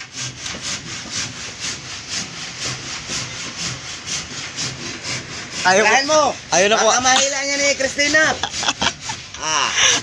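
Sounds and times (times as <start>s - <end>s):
hand saw cutting wood: 0.0s - 10.0s.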